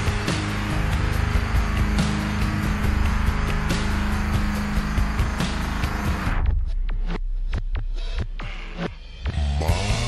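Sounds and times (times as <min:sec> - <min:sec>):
deep steady bass: 0:00.0 - 0:08.1.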